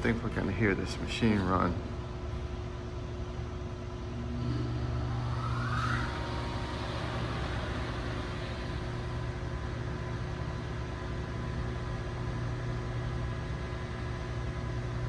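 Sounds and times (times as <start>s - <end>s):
elevator pump motor humming: 0.0s - 15.0s.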